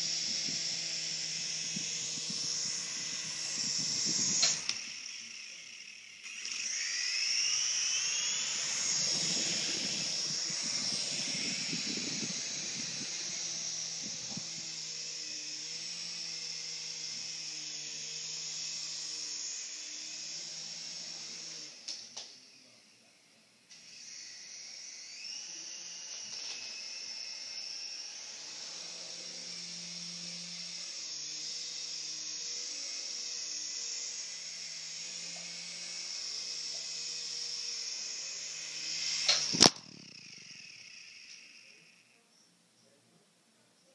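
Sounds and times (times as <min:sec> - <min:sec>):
micro helicopter rotor whir: 0:00.0 - 0:43.9.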